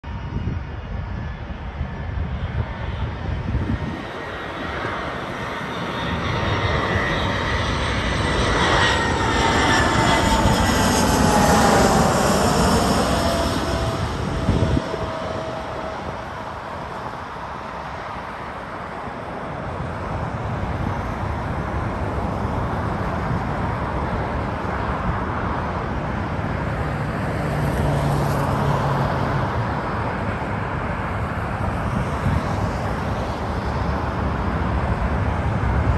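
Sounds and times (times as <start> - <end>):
jet plane passing overhead: 0.0 - 35.9.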